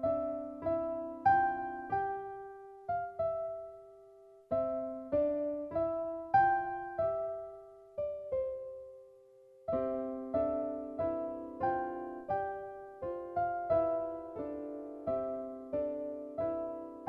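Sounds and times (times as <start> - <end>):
slow piano tune: 0.0 - 17.0.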